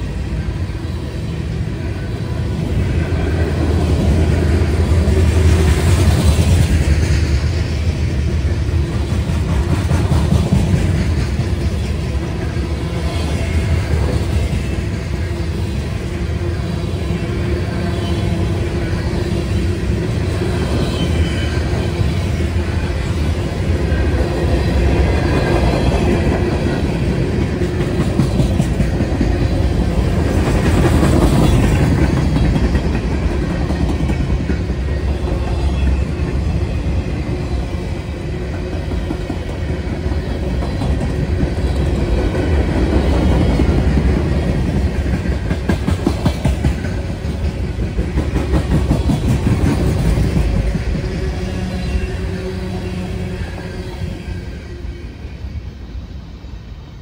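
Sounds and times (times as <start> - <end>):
steel wheels rumbling on rail: 0.0 - 57.0.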